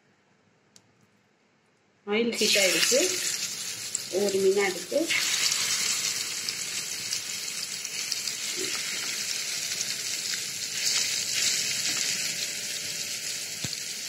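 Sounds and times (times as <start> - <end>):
fish sizzling in hot oil: 2.4 - 14.0.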